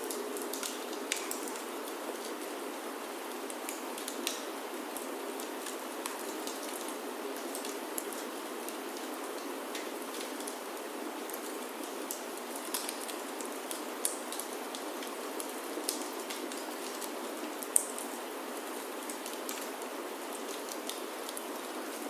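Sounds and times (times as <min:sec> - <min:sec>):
rain on a wooden roof: 0:00.0 - 0:22.0
wood fire crackling and popping: 0:00.1 - 0:02.5, 0:03.3 - 0:10.6, 0:11.2 - 0:18.1, 0:20.4 - 0:22.0.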